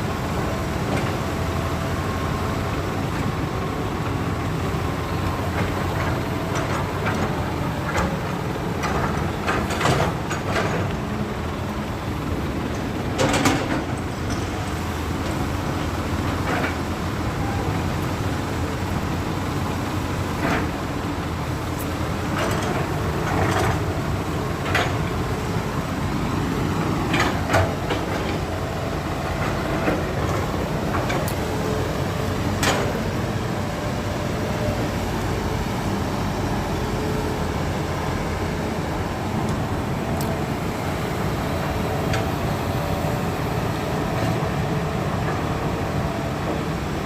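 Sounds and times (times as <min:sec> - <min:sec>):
diesel excavator running: 0:00.0 - 0:47.0.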